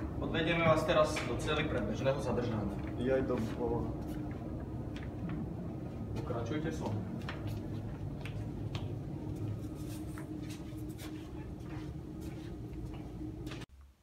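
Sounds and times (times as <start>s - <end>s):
steady low hum: 0.0s - 14.0s
footsteps and shuffling: 0.6s - 13.7s.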